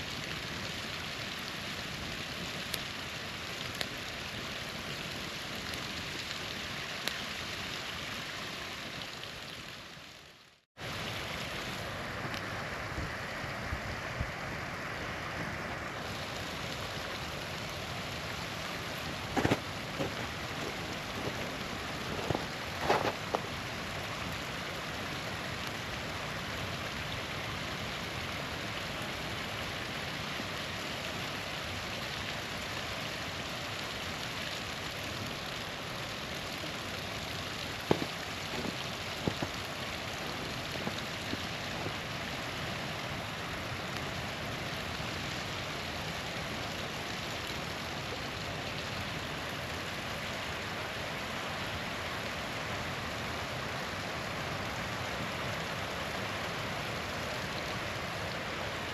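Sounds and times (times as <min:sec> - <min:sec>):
campfire crackles and pops: 0:00.0 - 0:13.6, 0:15.0 - 0:58.9
small waterfall rushing: 0:00.0 - 0:58.9.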